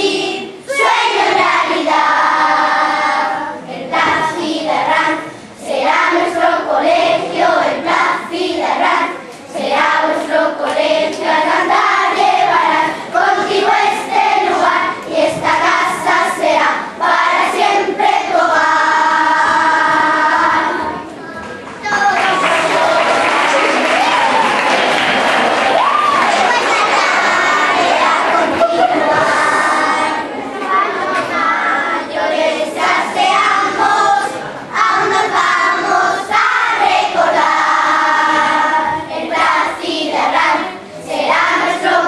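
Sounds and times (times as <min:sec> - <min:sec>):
children's choir singing: 0:00.0 - 0:42.0.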